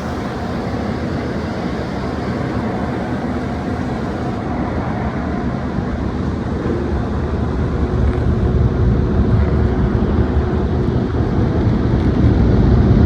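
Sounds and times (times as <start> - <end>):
car wash machinery rumbling: 0.0 - 13.0.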